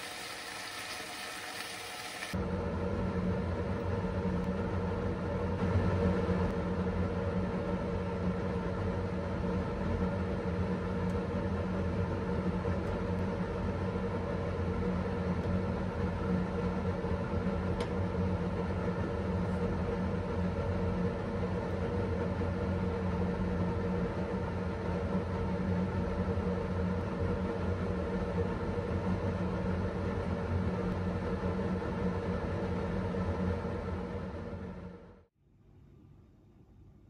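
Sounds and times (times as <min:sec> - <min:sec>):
range hood fan humming: 0:00.0 - 0:35.0.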